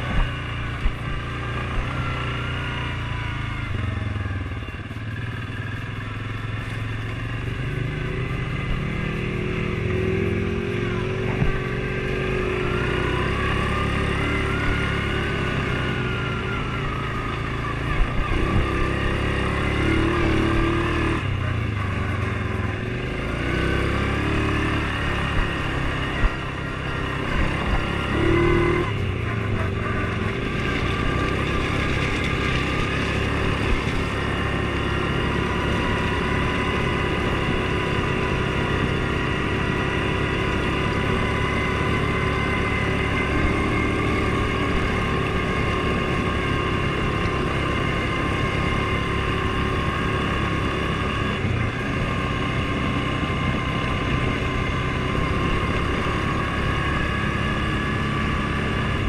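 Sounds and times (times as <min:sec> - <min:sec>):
vehicle engine droning with whine: 0:00.0 - 0:59.0.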